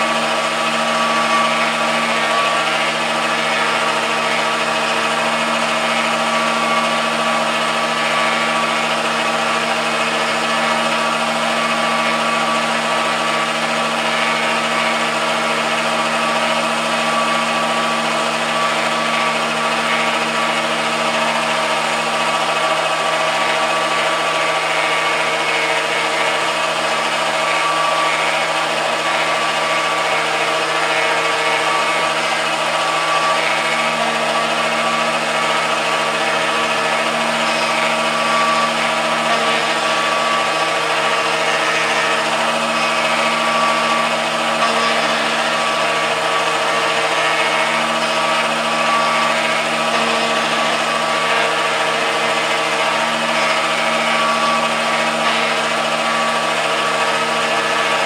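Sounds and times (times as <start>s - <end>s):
lathe motor whine: 0.0s - 58.0s.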